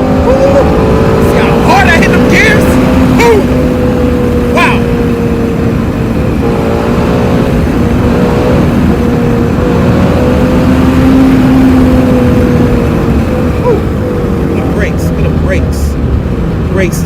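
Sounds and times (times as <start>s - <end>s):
car engine running loud: 0.0s - 17.0s.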